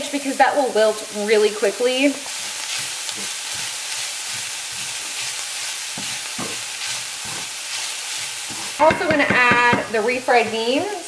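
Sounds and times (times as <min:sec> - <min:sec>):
vegetables sizzling in a frying pan: 0:00.0 - 0:11.0
wooden spoon scraping a pan: 0:01.3 - 0:11.0.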